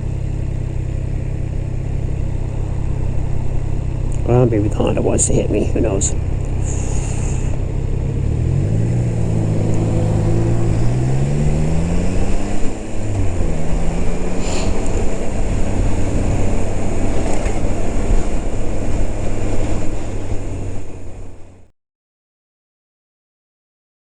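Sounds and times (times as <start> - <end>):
motorcycle engine accelerating: 0.0 - 21.7
road and wind noise: 0.0 - 21.7.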